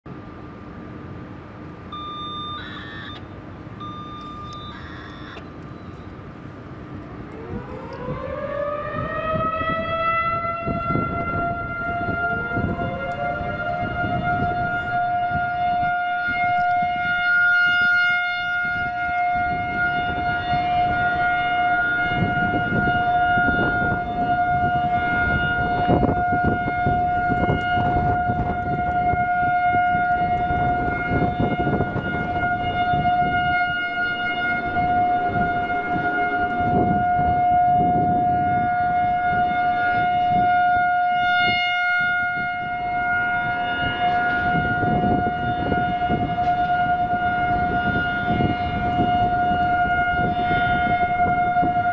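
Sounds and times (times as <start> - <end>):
warning siren steady tone: 1.8 - 51.9.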